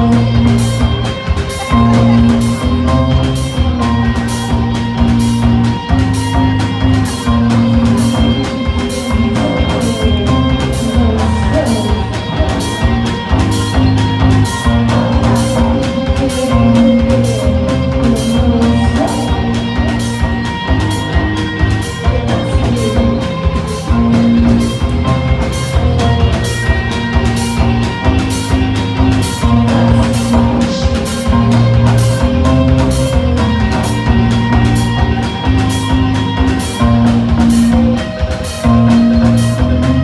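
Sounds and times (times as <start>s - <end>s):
drum and cymbal hits: 0.0s - 40.0s
electric guitars: 0.0s - 40.0s.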